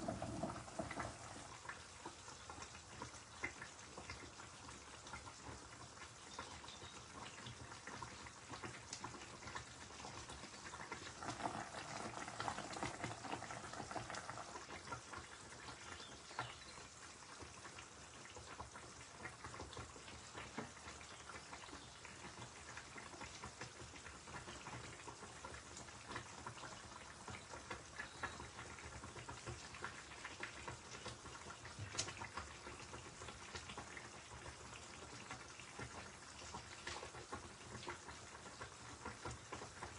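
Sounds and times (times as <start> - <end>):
curry sizzling in a pan: 0.0 - 39.9.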